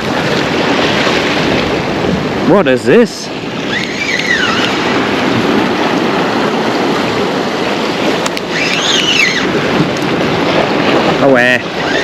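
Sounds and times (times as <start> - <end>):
surf washing on rocks: 0.0 - 12.0
wind on microphone: 0.0 - 12.0.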